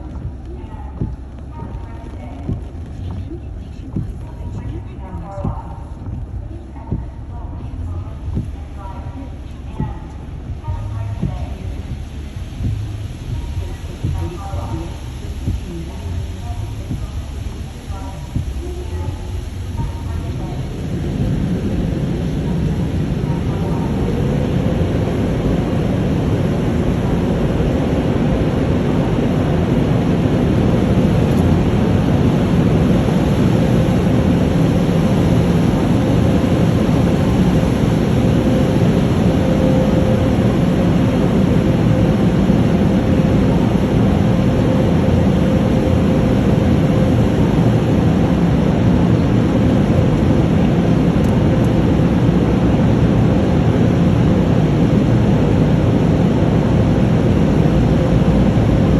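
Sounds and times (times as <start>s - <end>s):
car wash machinery rushing: 0.0s - 58.9s.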